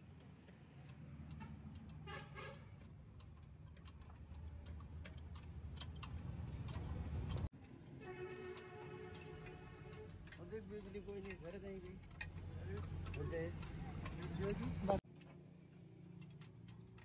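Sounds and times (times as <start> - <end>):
hand tools clicking and tapping metal: 0.0 - 2.1, 2.7 - 17.0.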